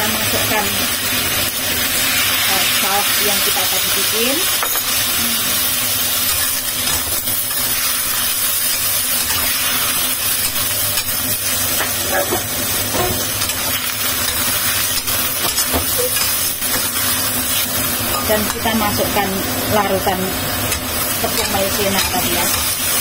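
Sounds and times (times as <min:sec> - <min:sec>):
stir-fry sizzling in a wok: 0:00.0 - 0:23.0.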